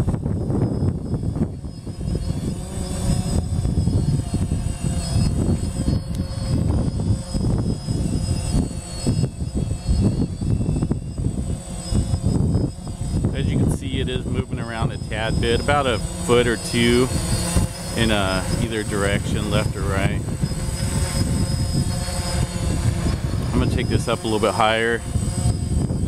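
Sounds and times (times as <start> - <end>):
quadcopter propellers whining: 0.0 - 26.0
wind rumble on microphone: 0.0 - 26.0.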